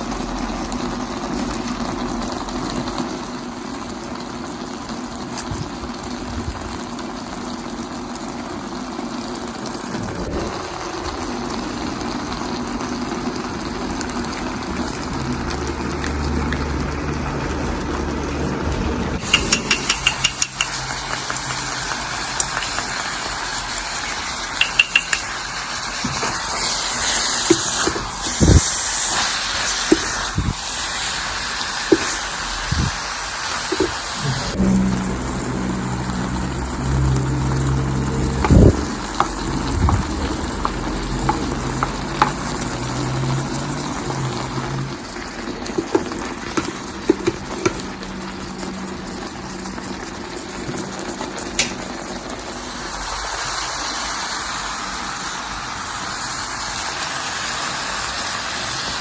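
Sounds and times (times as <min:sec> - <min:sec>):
food simmering and sizzling: 0:00.0 - 0:59.0.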